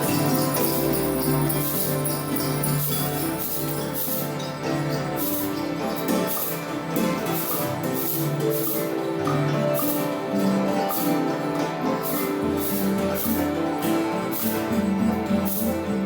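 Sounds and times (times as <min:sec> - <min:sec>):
rattling percussion beat: 0:00.0 - 0:16.0.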